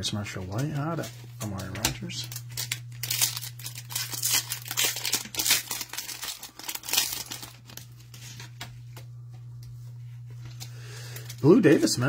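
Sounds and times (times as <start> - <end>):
low steady hum: 0.0 - 12.0
cards and foil wrapper crinkling: 0.1 - 12.0.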